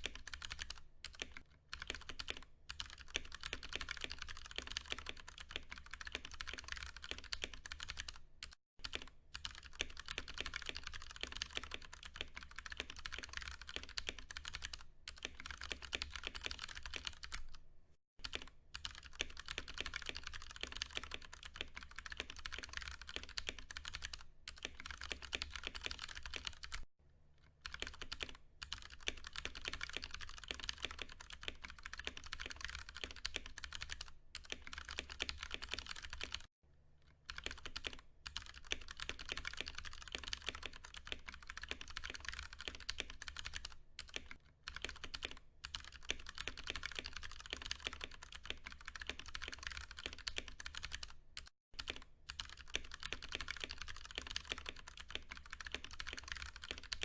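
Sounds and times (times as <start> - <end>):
typing on mechanical keyboard: 0.0 - 17.6, 18.2 - 26.9, 27.6 - 36.5, 37.3 - 57.0.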